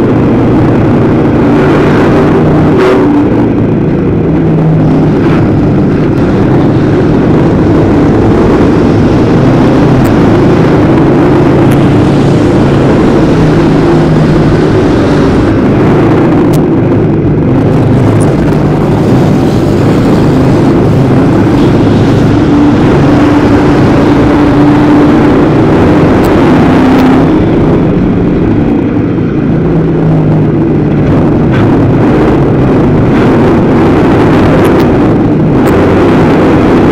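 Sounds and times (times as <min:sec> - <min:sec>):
race car engine running hard: 0:00.0 - 0:36.9.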